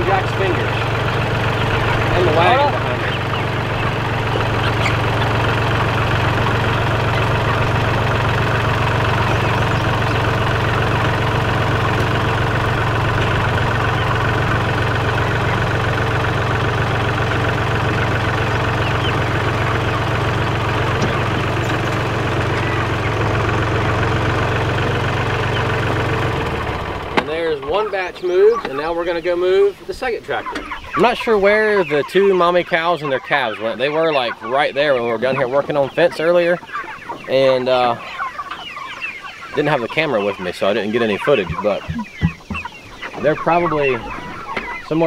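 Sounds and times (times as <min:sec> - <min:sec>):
tractor diesel engine running: 0:00.0 - 0:29.6, 0:30.4 - 0:45.0.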